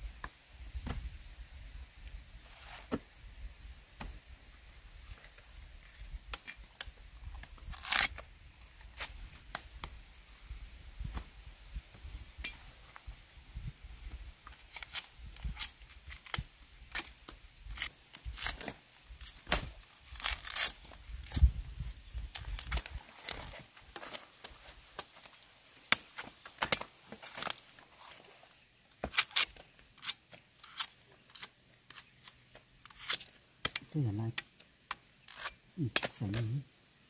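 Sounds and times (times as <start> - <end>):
bamboo husks tearing and crackling: 3.9 - 36.7.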